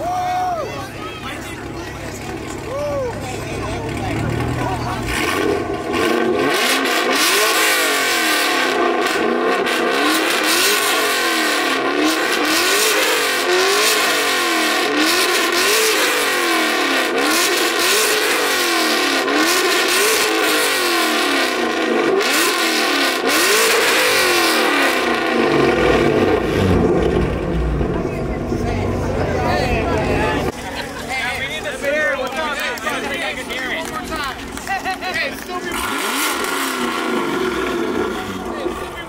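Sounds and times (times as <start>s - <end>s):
car engine revving: 1.0s - 30.6s, 33.4s - 39.0s.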